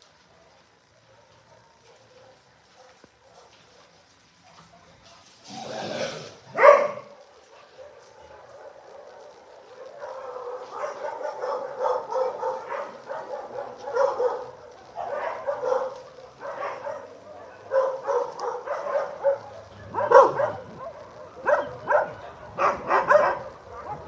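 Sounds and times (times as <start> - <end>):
dogs barking and yipping: 1.0 - 5.4, 6.5 - 24.0.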